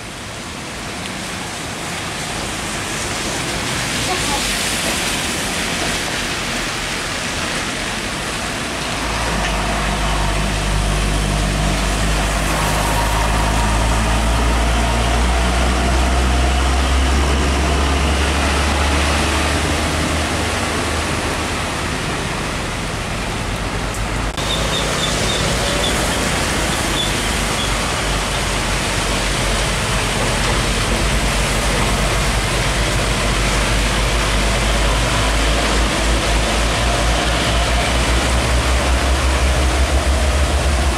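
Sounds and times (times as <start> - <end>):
rain and tyres hissing on wet road: 0.0 - 40.9
truck engine drone: 7.4 - 40.9.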